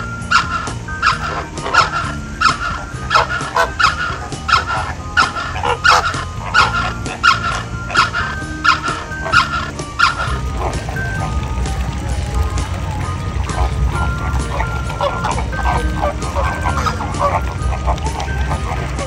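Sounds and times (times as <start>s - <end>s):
flamingo honking: 0.0s - 19.0s.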